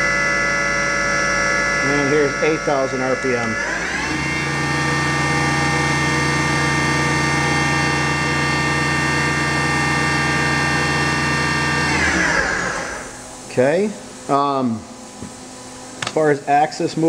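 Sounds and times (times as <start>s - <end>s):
machine spindle whining: 0.0s - 15.3s.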